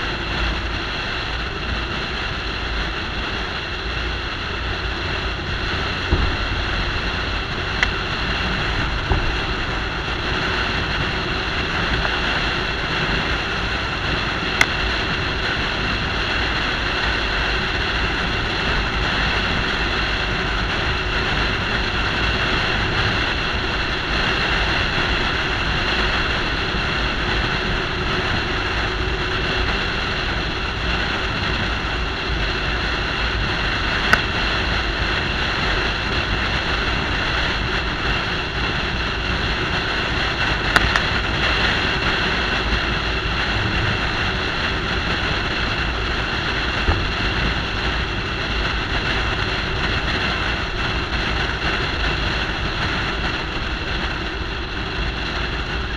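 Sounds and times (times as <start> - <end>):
wind rush and road noise: 0.0 - 55.9.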